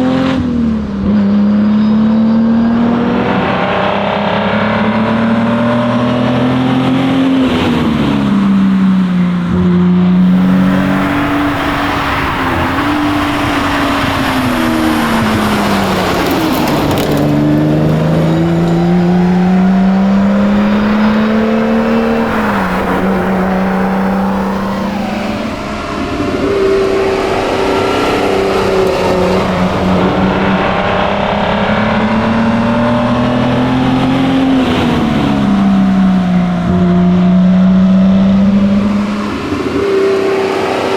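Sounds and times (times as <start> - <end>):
car engine revving through gears: 0.0 - 40.9
tyre and road noise: 2.4 - 40.9.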